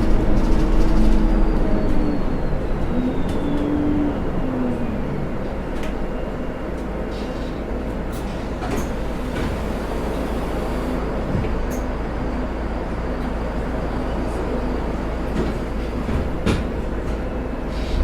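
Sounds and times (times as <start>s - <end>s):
rail car rumbling on track: 0.0s - 18.0s.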